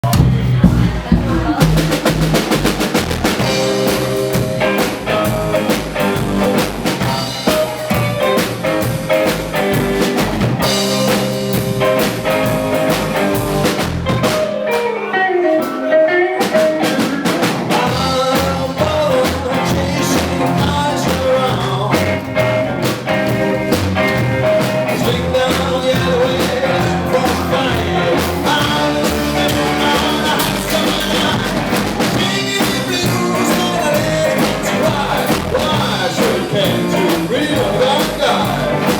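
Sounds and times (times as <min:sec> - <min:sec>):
rock and roll band playing: 0:00.0 - 0:38.9.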